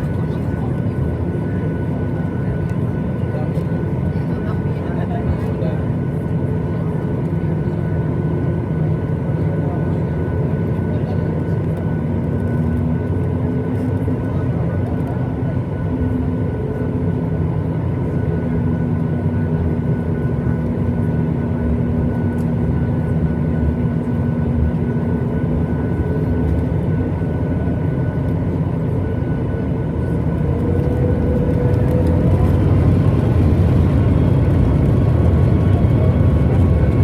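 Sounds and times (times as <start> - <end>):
airliner cabin rumble: 0.0 - 37.0.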